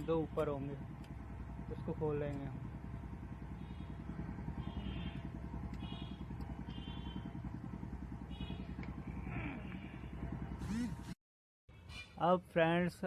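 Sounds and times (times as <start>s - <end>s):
low engine-like rumble: 0.0s - 11.2s.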